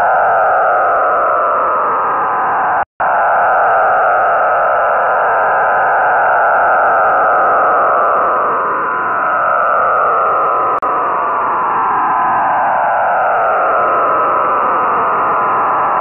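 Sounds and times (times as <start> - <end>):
slowly falling tones: 0.0 - 16.0.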